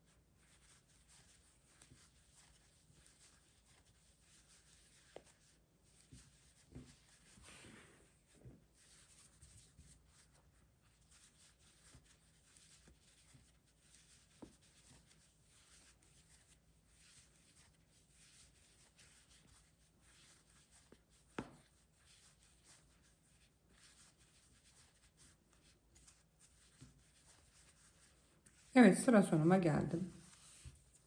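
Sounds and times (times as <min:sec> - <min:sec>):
crochet hook scratching yarn: 0:00.0 - 0:07.5, 0:08.8 - 0:31.0.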